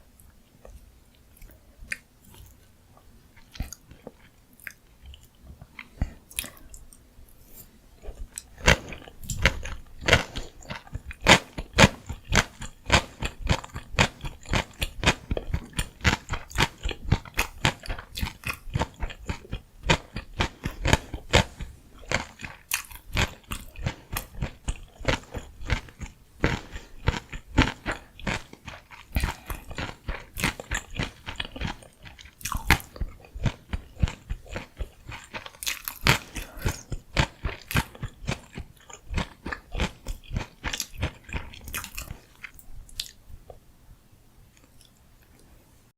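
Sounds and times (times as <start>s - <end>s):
close-miked chewing: 0.2s - 43.6s.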